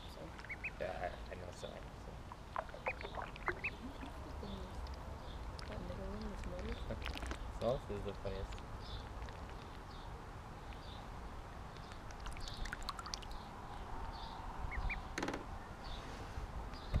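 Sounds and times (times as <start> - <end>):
ducklings peeping: 0.0 - 13.4, 14.2 - 15.2.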